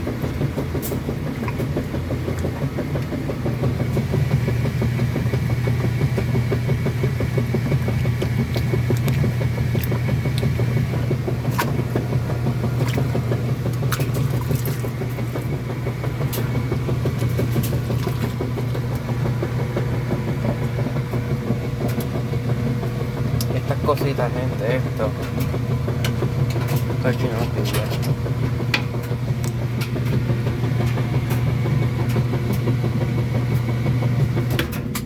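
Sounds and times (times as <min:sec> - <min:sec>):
washing machine churning: 0:00.0 - 0:35.0.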